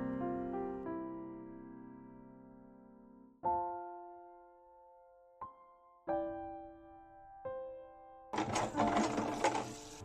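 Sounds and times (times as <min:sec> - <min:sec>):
soft piano chords: 0:00.0 - 0:08.3.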